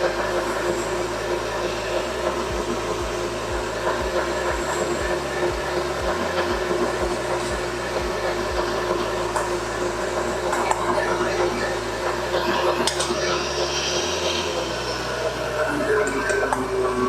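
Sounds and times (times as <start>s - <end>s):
stand mixer beating batter: 0.0s - 17.0s.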